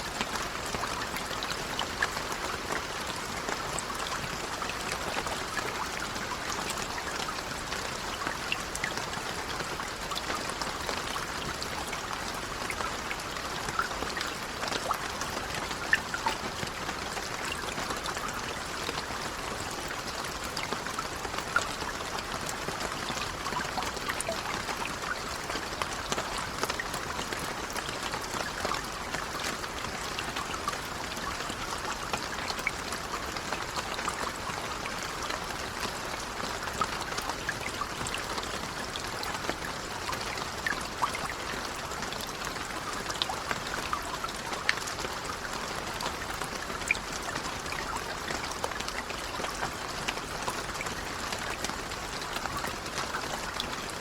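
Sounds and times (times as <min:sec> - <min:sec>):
gentle rain pattering: 0:00.0 - 0:54.0.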